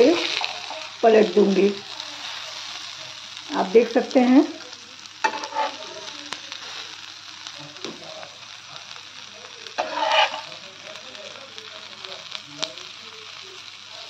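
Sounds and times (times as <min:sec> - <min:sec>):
okra sizzling in oil: 0:00.0 - 0:14.0.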